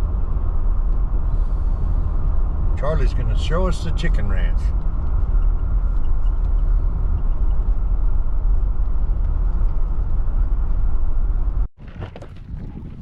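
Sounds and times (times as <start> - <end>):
road and engine rumble: 0.0 - 11.7.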